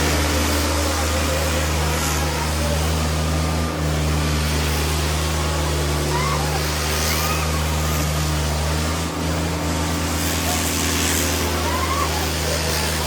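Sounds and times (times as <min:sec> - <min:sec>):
crowd noise: 0:00.0 - 0:13.0
tractor diesel engines under load: 0:00.0 - 0:13.0.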